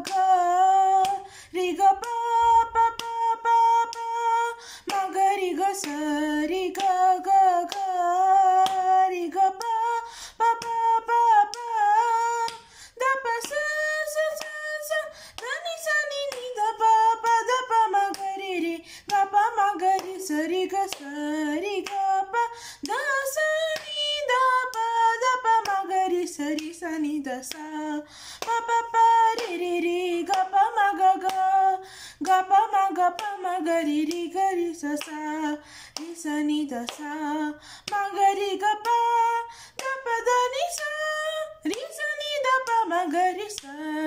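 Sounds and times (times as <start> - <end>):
girl singing unaccompanied: 0.0 - 44.0.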